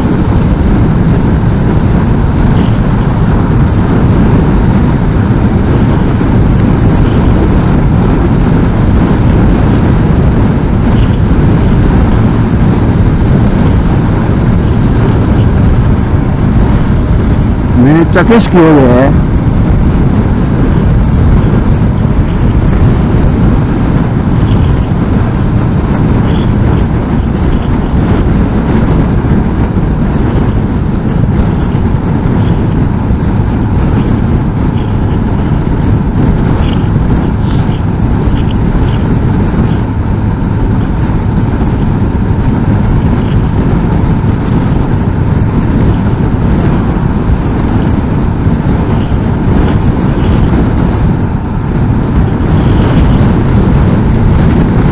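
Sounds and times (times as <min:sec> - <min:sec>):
motorcycle engine and tyre rumble: 0:00.0 - 0:54.9
wind noise on microphone: 0:00.0 - 0:54.9.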